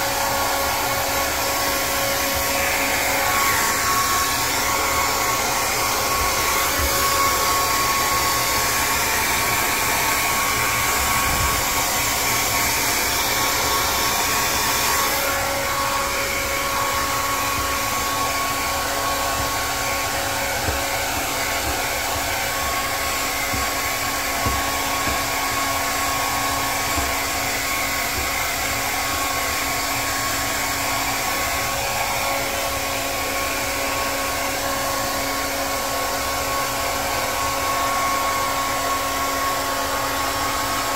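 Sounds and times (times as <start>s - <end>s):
blow dryer running: 0.0s - 40.9s.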